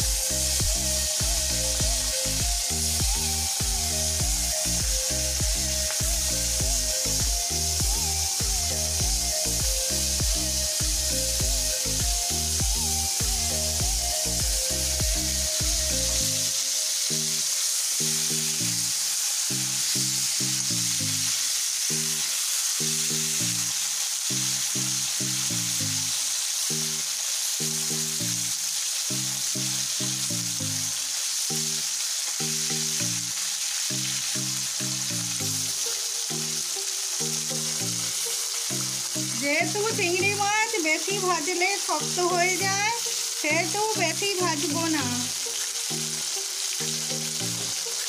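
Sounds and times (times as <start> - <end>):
prawns sizzling in hot oil: 0.0 - 48.0.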